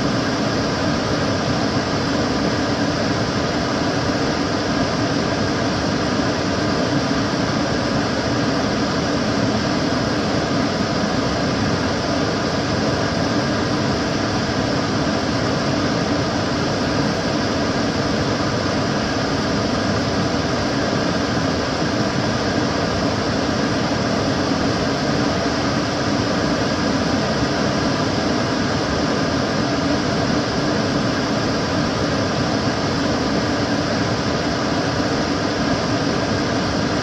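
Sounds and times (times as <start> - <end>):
extractor fan running: 0.0 - 37.0.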